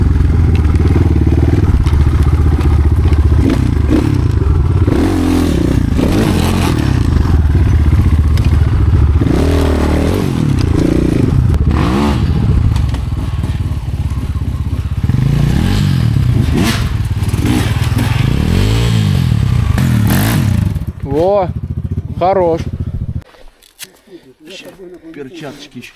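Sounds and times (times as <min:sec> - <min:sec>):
motorcycle engine revving: 0:00.0 - 0:23.2.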